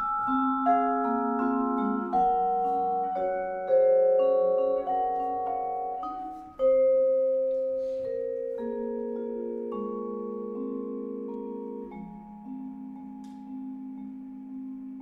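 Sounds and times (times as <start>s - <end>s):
vibraphone chords: 0.0s - 15.0s.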